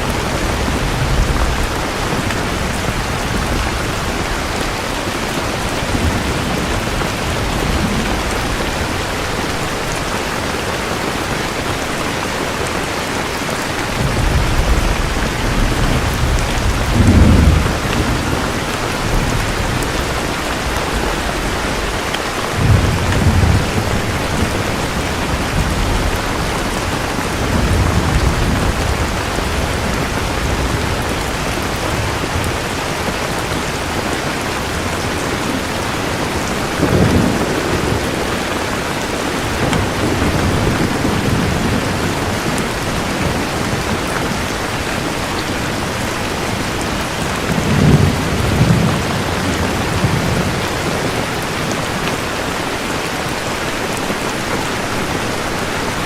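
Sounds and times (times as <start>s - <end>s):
thunder rumbling: 0.0s - 12.7s, 13.4s - 52.6s
steady rain: 0.0s - 56.0s.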